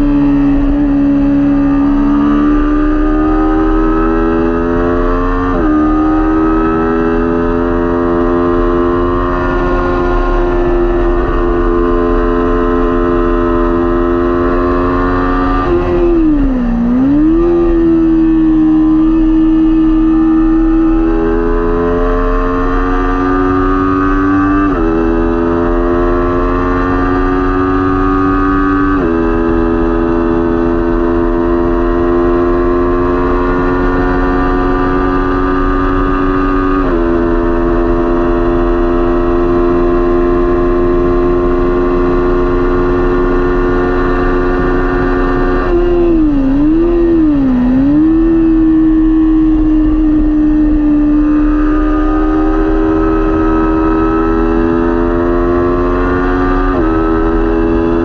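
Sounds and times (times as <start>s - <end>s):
motorcycle engine revving hard: 0.0s - 58.0s.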